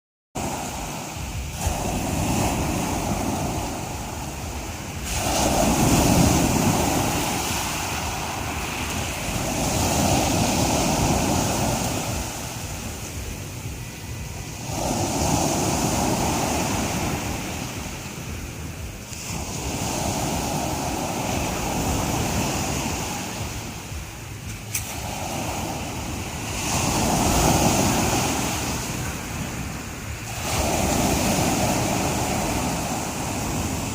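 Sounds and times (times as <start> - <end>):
waves breaking on shore: 0.4 - 33.9.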